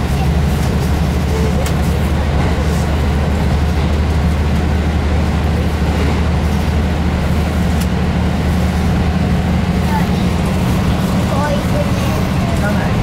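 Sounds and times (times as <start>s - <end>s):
diesel engine drone: 0.0s - 13.0s
wheel and rail noise: 0.0s - 13.0s.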